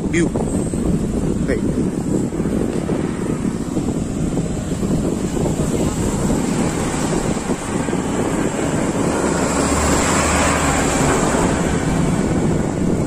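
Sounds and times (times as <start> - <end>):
road traffic: 0.0 - 13.0
vehicle engine hum: 0.0 - 13.0
wind rushing over microphone: 0.0 - 13.0.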